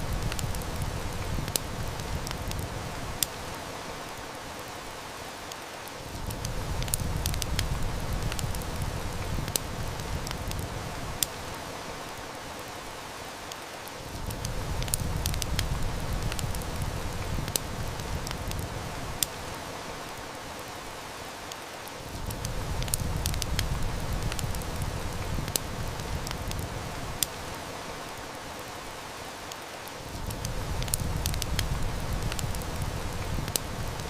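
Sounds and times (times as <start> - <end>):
heavy rain falling: 0.0 - 34.0
wood fire crackling: 0.0 - 34.0.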